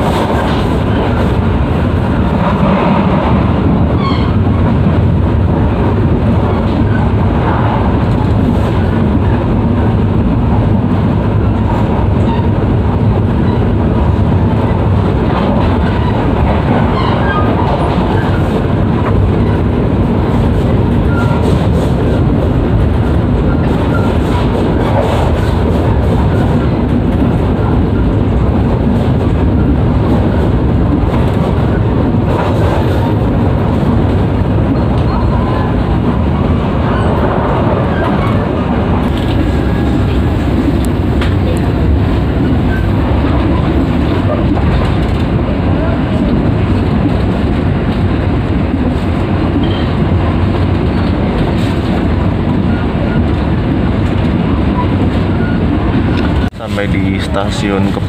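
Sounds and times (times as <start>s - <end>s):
train wheel and rail noise: 0.0s - 58.0s.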